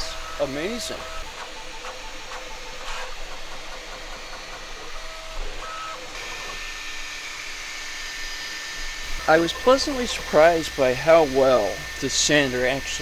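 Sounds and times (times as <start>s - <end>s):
short whining tones: 0.0s - 3.3s, 4.7s - 13.0s
small machine hissing: 0.0s - 13.0s.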